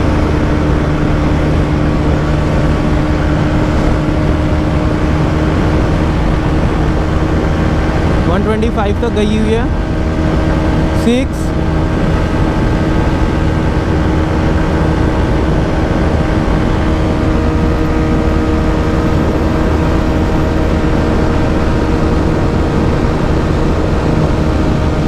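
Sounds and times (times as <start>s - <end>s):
wind rush: 0.0s - 25.0s.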